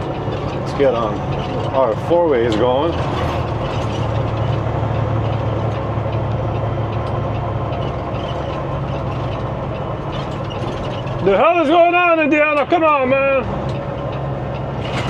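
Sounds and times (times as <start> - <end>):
diesel engine drone: 0.0 - 15.0
road noise inside cab: 0.0 - 15.0.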